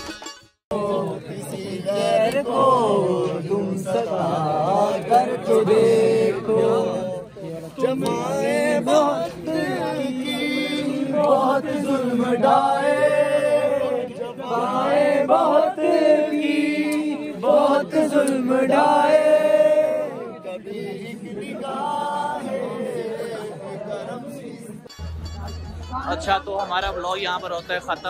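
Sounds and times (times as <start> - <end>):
men singing unaccompanied: 0.7 - 24.9.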